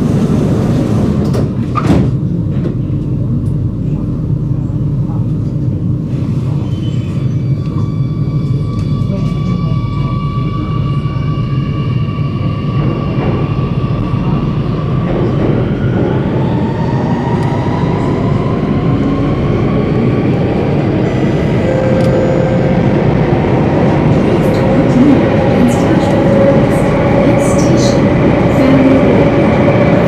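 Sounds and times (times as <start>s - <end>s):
train wheels rumbling in tunnel: 0.0s - 30.0s.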